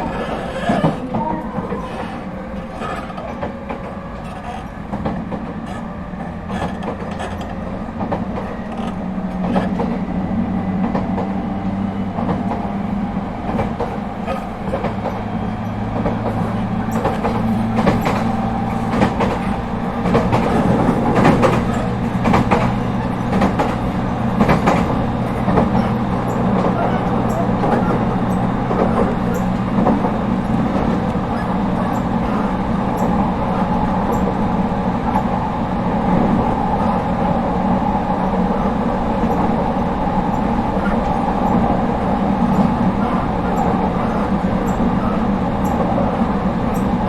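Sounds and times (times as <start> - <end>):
train motor hum: 0.0 - 47.0
train rolling noise: 0.0 - 47.0
train wheels clicking over rail joints: 0.0 - 47.0.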